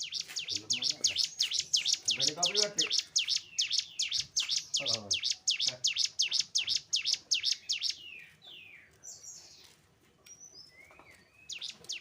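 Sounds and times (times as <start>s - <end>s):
bird singing sharp sweeping notes: 0.0s - 9.2s, 10.4s - 12.0s.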